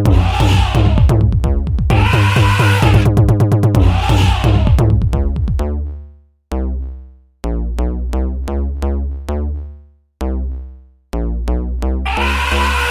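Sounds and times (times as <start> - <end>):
deep synth bass: 0.0 - 12.9.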